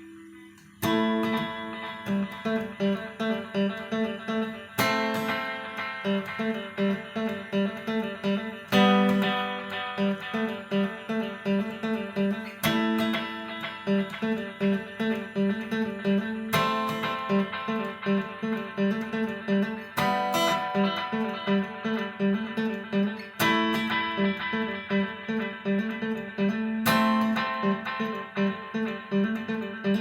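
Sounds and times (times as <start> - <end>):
guitar chord strummed: 0.0 - 30.0
single picked guitar notes: 0.0 - 30.0.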